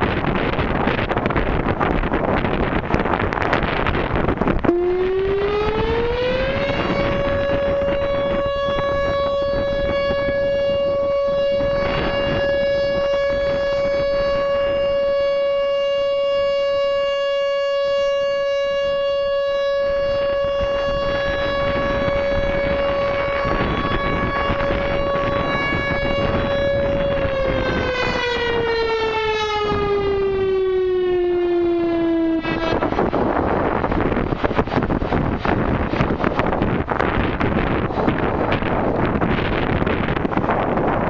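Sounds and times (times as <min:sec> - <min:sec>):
electronic warning siren tone: 0:00.0 - 0:41.0
wind noise on microphone: 0:00.0 - 0:41.0.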